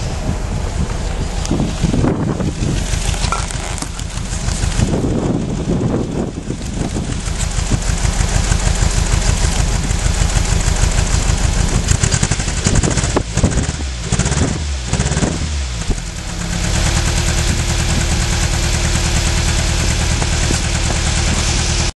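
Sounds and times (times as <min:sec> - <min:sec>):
car engine misfiring: 0:00.0 - 0:21.9
exhaust popping: 0:00.0 - 0:21.9.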